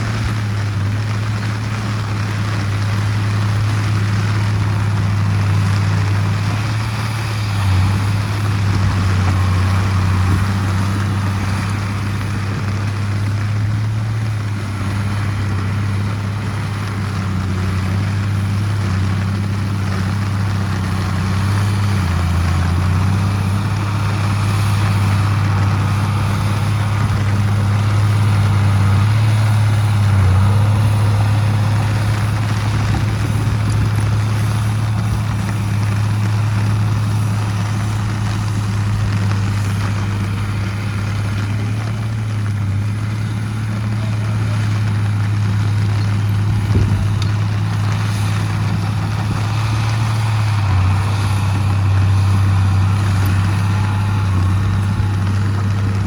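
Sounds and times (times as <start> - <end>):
heavy diesel engine under load: 0.0 - 56.0.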